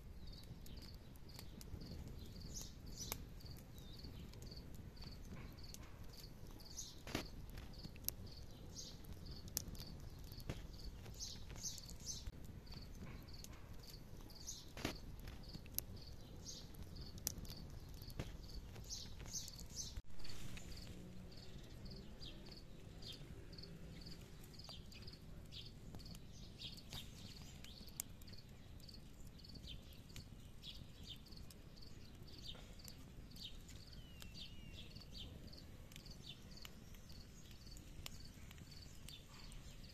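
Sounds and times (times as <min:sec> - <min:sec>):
burning wood cracking: 0:00.0 - 0:39.9
campfire rushing: 0:00.0 - 0:39.9.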